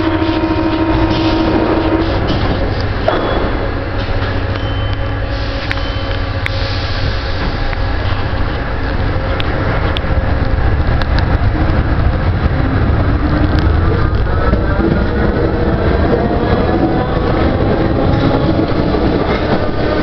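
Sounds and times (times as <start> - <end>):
metro train running rumble: 0.0 - 20.0
rising whine: 0.0 - 20.0.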